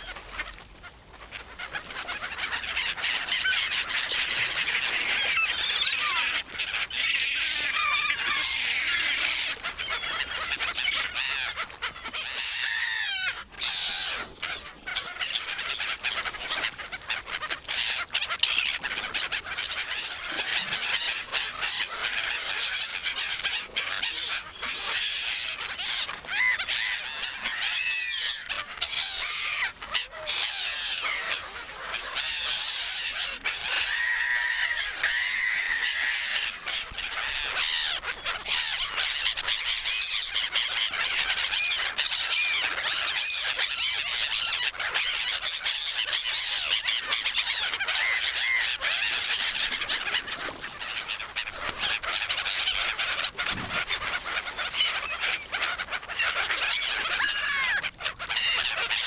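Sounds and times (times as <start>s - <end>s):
gulls squealing cries: 0.0s - 59.0s.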